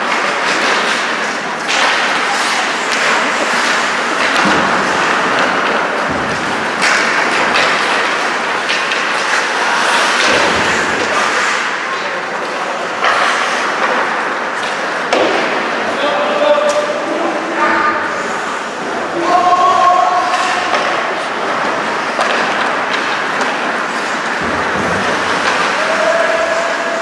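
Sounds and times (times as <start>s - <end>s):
knocks of sticks puck and boards: 0.0s - 27.0s
skates scraping on ice: 0.0s - 27.0s.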